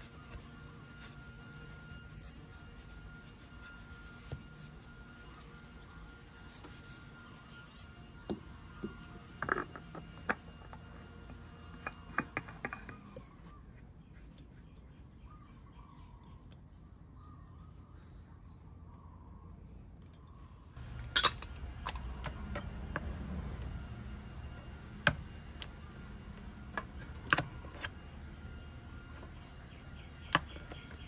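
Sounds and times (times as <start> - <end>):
faint steady tone: 0.0 - 31.0.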